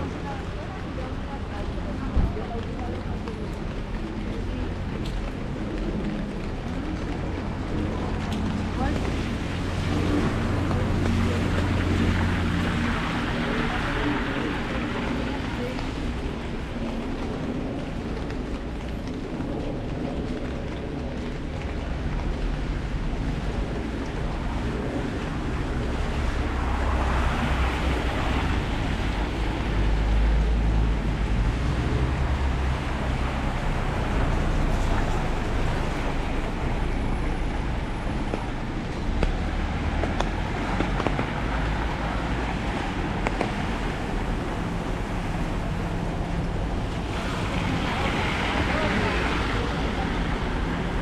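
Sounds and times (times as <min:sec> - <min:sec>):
rain on an umbrella: 0:00.0 - 0:51.0.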